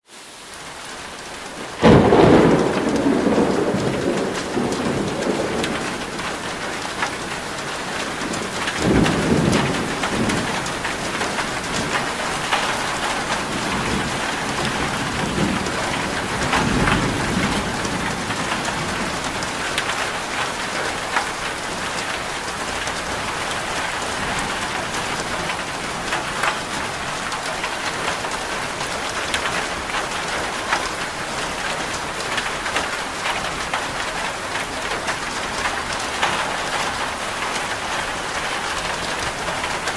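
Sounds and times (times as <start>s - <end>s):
heavy rain pattering: 0.1s - 39.9s
thunder rumbling: 1.6s - 39.9s.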